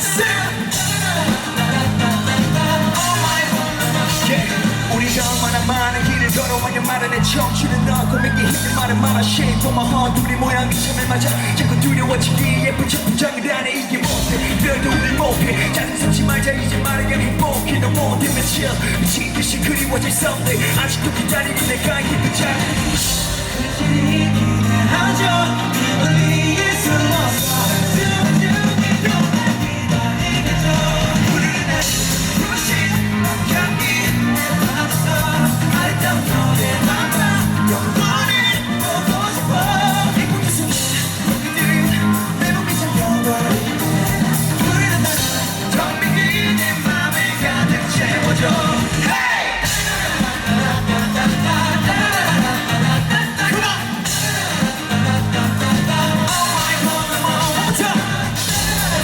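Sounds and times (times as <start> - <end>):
live rock band playing: 0.0 - 59.0
person singing: 0.0 - 59.0.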